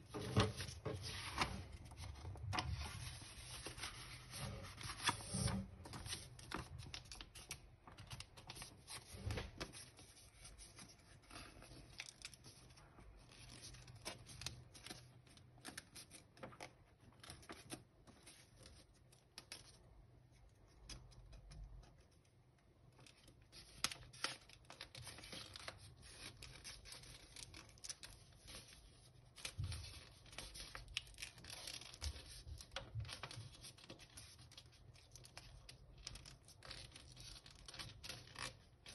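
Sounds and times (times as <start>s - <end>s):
paper rustling and crackling: 0.0s - 22.1s, 22.8s - 38.9s.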